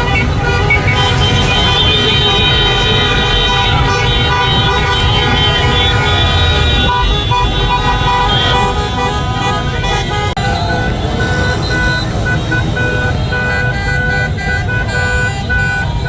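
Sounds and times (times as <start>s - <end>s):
car horns honking: 0.0s - 16.0s
road traffic rumble: 0.0s - 16.0s.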